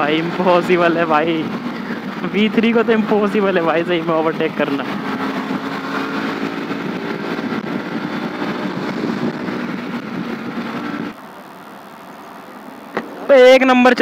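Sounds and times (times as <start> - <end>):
motorcycle engine at speed: 0.0 - 14.0
quiet street scene: 0.0 - 14.0
wind and road rush: 0.0 - 14.0.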